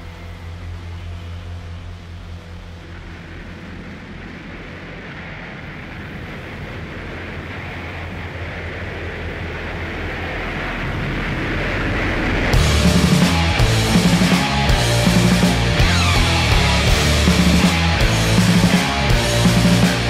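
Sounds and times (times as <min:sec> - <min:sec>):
low droning hum: 0:00.0 - 0:20.0
rumbling hiss: 0:00.0 - 0:20.0.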